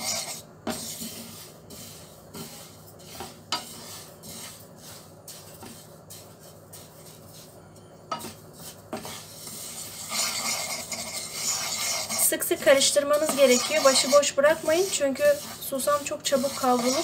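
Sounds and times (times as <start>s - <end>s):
seeds scraping in a frying pan: 0.0s - 17.0s.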